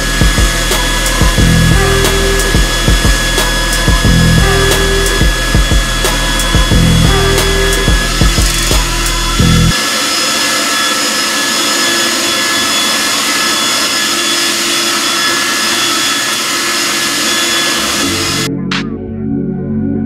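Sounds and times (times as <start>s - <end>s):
hair dryer running: 0.0s - 18.8s.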